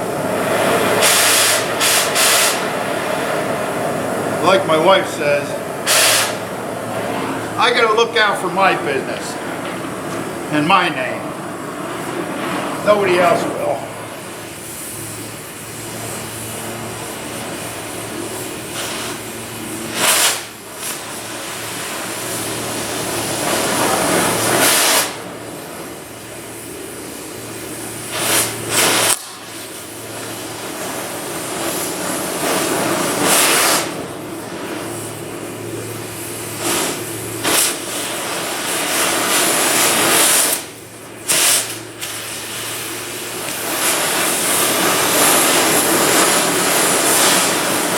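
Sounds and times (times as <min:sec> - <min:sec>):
cutting torch hissing: 0:00.0 - 0:47.9.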